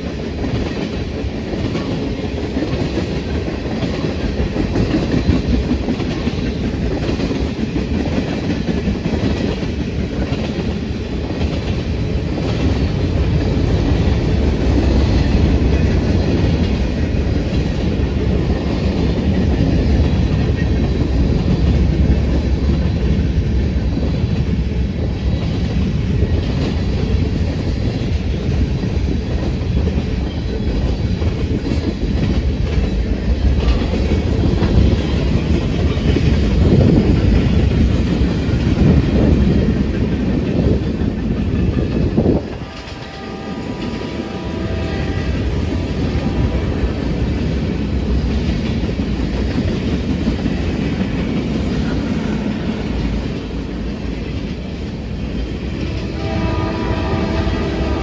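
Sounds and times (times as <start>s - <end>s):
train cars rumbling past: 0.0s - 58.0s
wheels clacking over rail joints: 0.0s - 58.0s.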